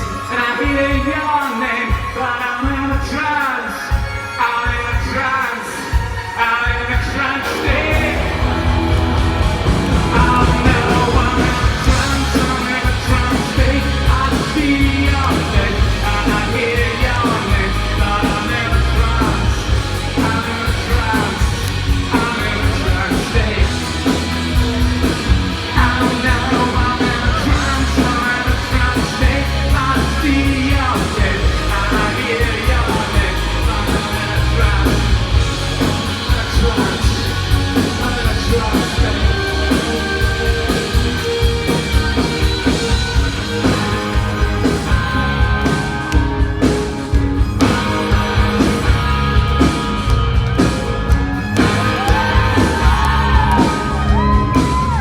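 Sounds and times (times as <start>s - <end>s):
person singing: 0.0s - 24.8s, 25.6s - 47.0s, 51.6s - 55.0s
live rock band playing: 0.0s - 55.0s.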